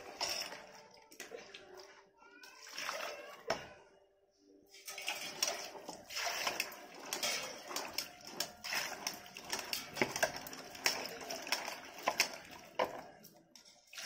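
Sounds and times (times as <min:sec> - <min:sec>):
water splashing in a bowl: 0:00.0 - 0:03.7, 0:04.8 - 0:13.3.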